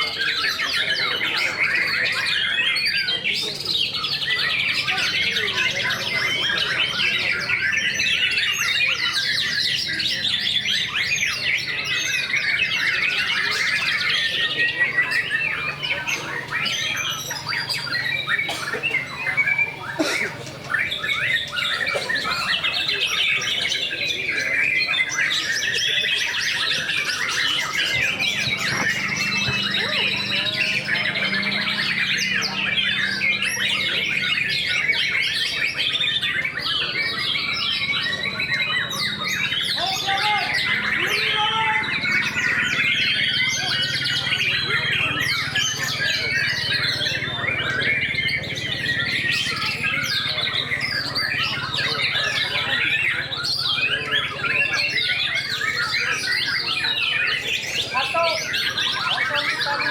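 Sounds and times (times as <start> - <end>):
many songbirds singing: 0.0 - 59.9.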